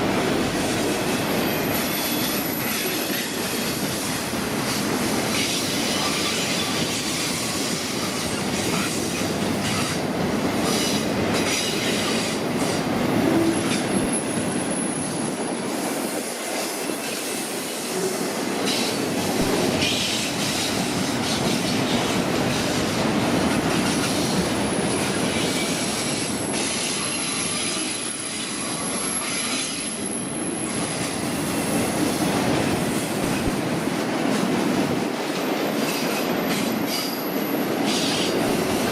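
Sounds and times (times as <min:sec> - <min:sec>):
steel wheels clattering on rails: 0:00.0 - 0:33.6, 0:34.2 - 0:38.9.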